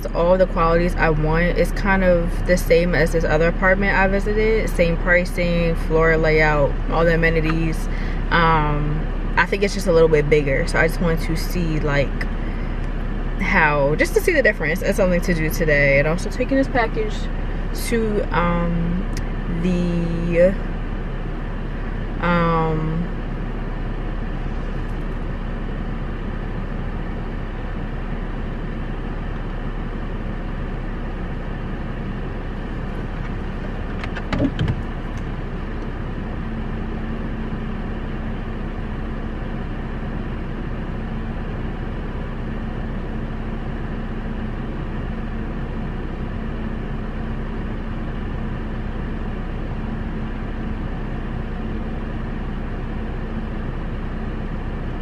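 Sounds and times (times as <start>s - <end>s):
car running noise from cabin: 0.0s - 55.0s.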